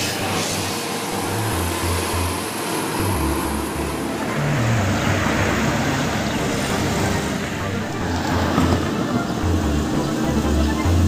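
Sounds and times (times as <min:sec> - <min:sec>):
combine harvester running: 0:00.0 - 0:11.0
passing road traffic: 0:00.0 - 0:11.0.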